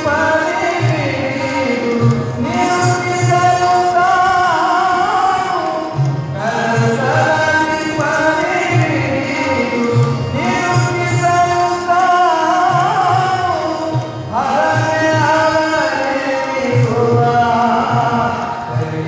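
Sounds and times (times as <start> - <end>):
man singing: 0.0 - 19.0
tabla rhythm: 0.0 - 19.0
tanpura drone: 0.0 - 19.0.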